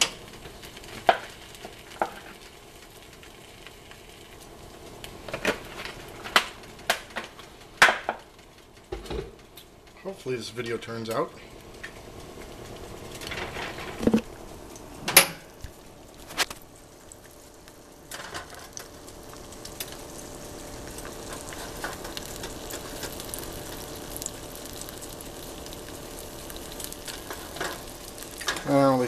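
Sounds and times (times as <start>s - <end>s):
eggs sizzling in a skillet: 0.0s - 29.0s.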